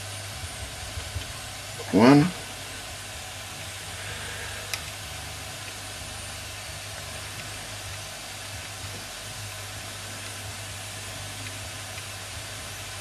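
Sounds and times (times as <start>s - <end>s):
toy steam engine boiler hissing: 0.0s - 13.0s.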